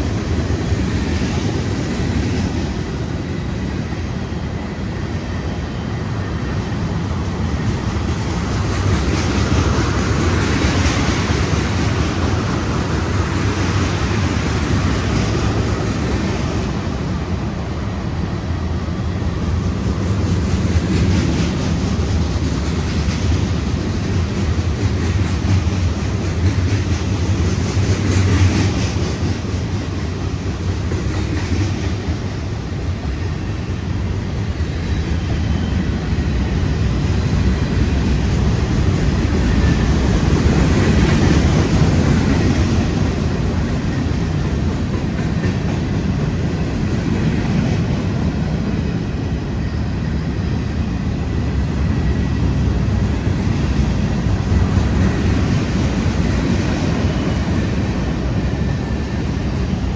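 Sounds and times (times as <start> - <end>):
freight train wheels on track: 0.0 - 59.9.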